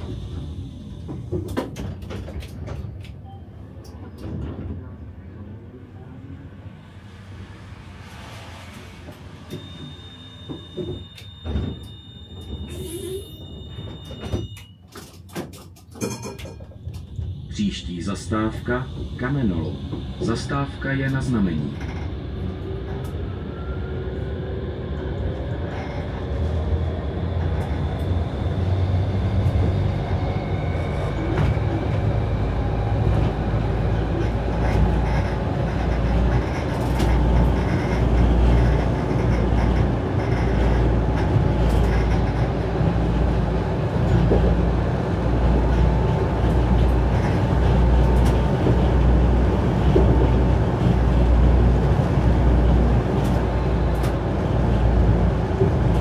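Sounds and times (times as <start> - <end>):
tram motor whine: 0.0 - 15.2, 16.4 - 56.0
tram rolling rumble: 0.0 - 56.0.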